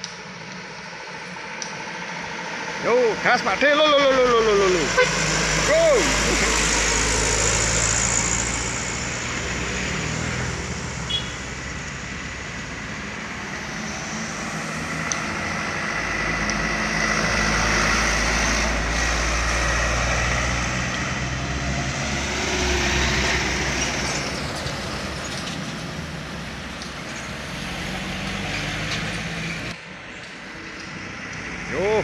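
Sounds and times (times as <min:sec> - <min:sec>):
trucks driving past: 0:00.0 - 0:32.0.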